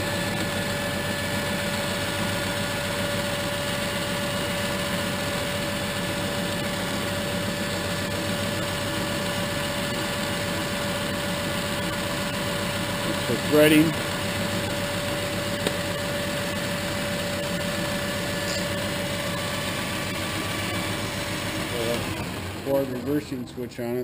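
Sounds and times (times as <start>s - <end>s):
lathe motor humming: 0.0s - 24.0s.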